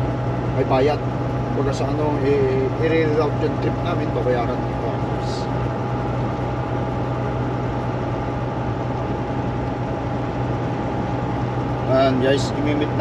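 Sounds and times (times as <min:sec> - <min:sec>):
road noise hum: 0:00.0 - 0:13.0
truck engine drone: 0:00.0 - 0:13.0.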